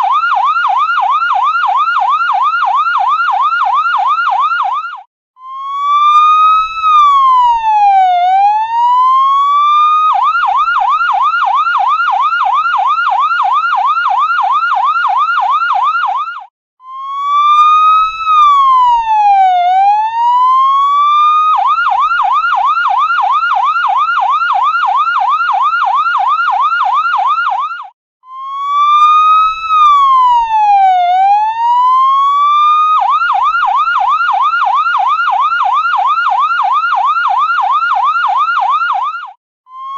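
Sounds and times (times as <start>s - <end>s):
ambulance siren wailing and yelping: 0.0s - 39.9s.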